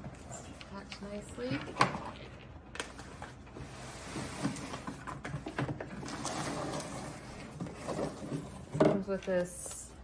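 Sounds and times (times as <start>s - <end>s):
cardboard and paper packaging rustling: 0.0s - 10.0s.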